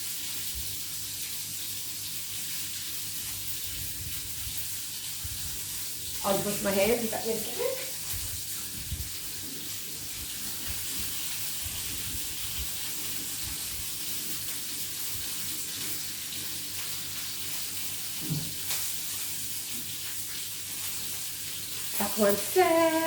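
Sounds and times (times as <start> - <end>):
chicken sizzling in a frying pan: 0.0 - 23.0.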